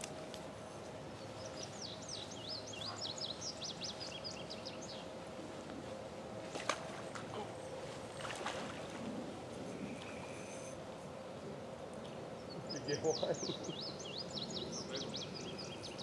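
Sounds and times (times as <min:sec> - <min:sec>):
faint steady hum: 0:00.0 - 0:16.0
outdoor background noise: 0:00.0 - 0:16.0.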